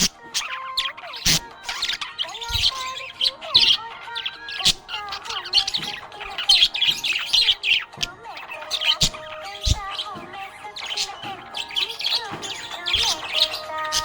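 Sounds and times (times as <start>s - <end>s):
budgerigar chirping and warbling: 0.0s - 14.0s.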